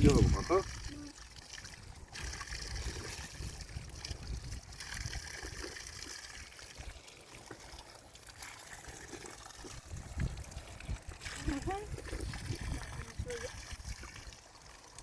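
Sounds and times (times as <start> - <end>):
spring water trickling: 0.0 - 15.0.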